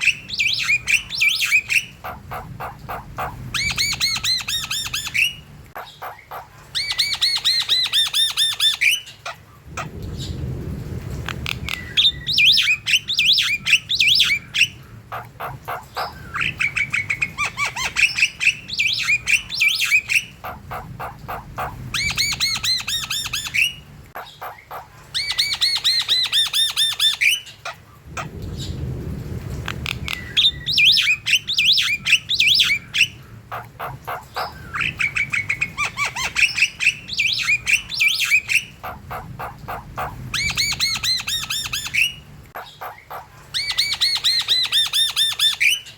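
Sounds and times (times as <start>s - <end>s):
bird chattering song: 0.0s - 9.4s, 11.5s - 27.7s, 30.0s - 45.9s
harsh bird squawking calls: 0.0s - 9.5s, 11.5s - 28.3s, 29.8s - 45.9s.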